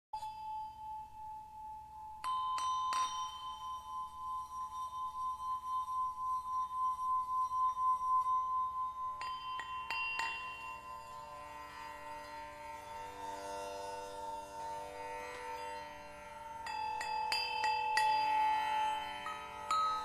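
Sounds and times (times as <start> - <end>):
struck bell-like tones: 0.2 - 20.0.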